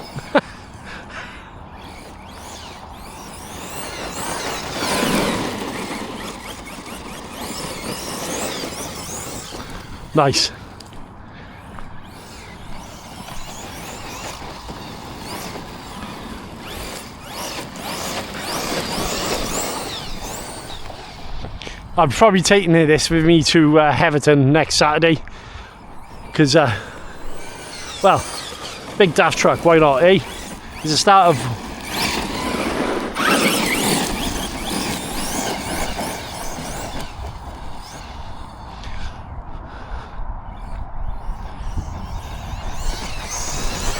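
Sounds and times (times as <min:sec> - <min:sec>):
electric motor whining: 0:00.0 - 0:23.6, 0:24.7 - 0:43.9
tyres on dirt: 0:00.0 - 0:43.9.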